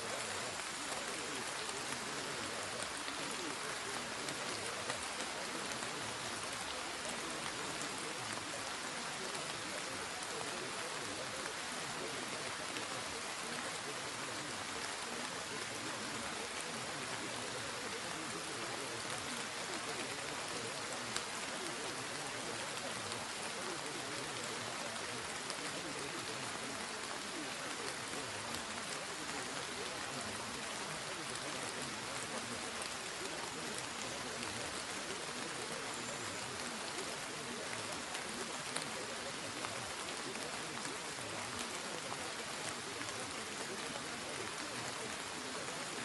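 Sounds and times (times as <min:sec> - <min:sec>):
rain drops ticking: 0:00.0 - 0:46.0
rain hiss: 0:00.0 - 0:46.0.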